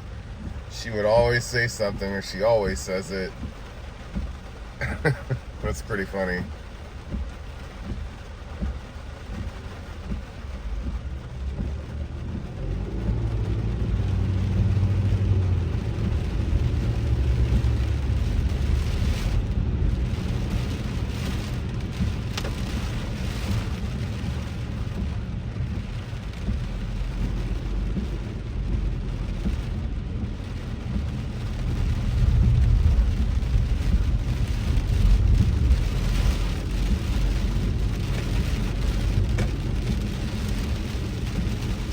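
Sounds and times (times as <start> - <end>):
car engine and road rumble: 0.0 - 41.9
rain hissing on car: 0.0 - 41.9.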